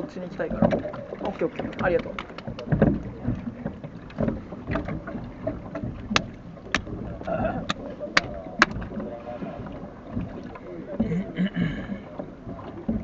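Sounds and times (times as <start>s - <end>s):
oars clicking and knocking: 0.0s - 13.0s.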